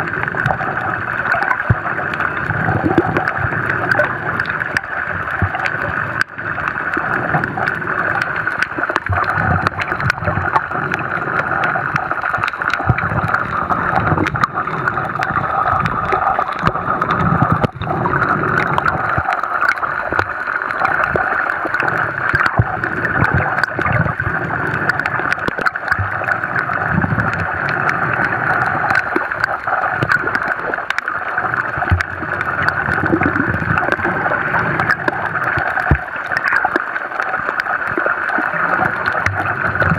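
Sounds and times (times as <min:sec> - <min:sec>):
clicks and crackles: 0:00.0 - 0:39.9
low underwater rumbles: 0:00.0 - 0:39.9
muffled underwater rush: 0:00.0 - 0:39.9.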